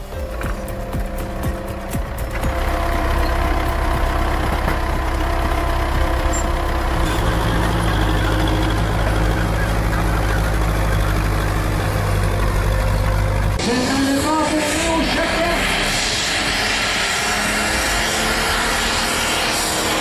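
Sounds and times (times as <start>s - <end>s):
tractor engine under heavy load: 0.0s - 20.0s.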